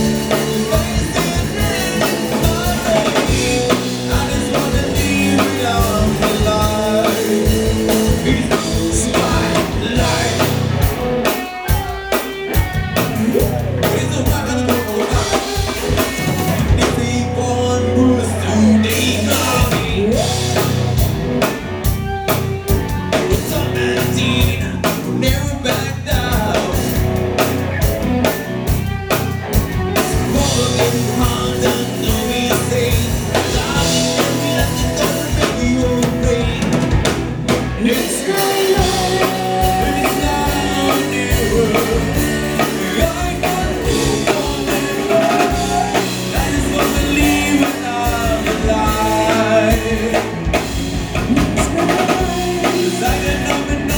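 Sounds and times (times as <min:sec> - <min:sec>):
person singing: 0:00.0 - 0:12.2, 0:13.0 - 0:21.6, 0:23.1 - 0:27.1, 0:30.0 - 0:37.1, 0:37.7 - 0:53.9
bass guitar: 0:00.0 - 0:53.9
drum kit beat: 0:00.0 - 0:53.9
guitar: 0:00.0 - 0:53.9.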